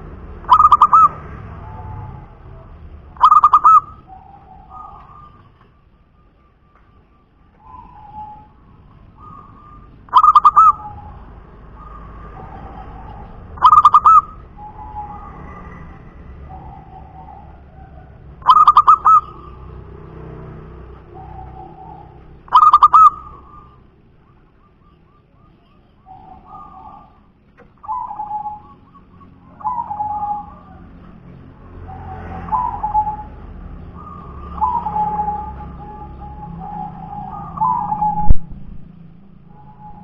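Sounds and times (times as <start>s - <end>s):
dove cooing: 0.0s - 38.8s.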